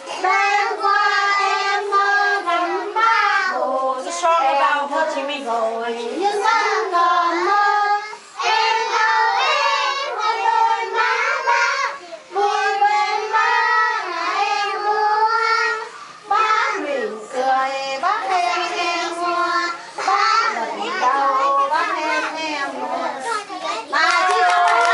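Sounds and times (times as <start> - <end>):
children singing together: 0.0 - 24.4.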